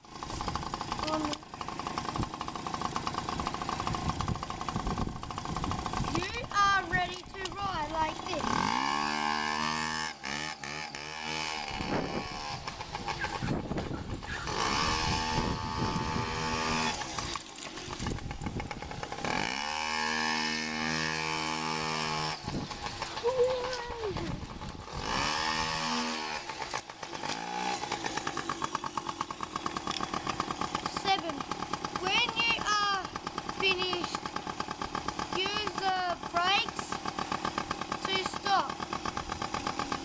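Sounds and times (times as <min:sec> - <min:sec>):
small motorbike engine revving: 0:00.0 - 0:40.0.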